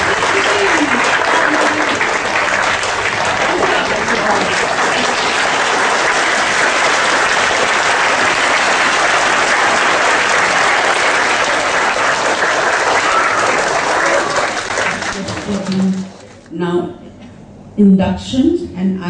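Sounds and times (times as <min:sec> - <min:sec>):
children applauding: 0:00.0 - 0:16.4.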